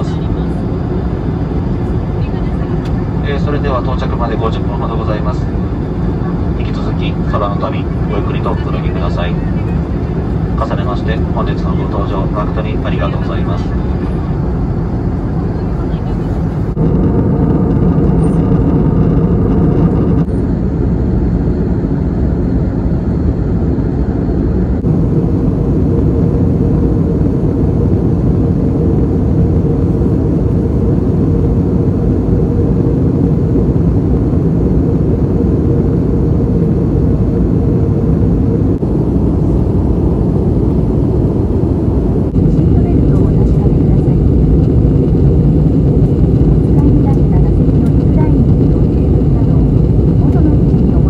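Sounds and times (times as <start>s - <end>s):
airflow: 0.0s - 51.0s
airplane cabin engine rumble: 0.0s - 51.0s.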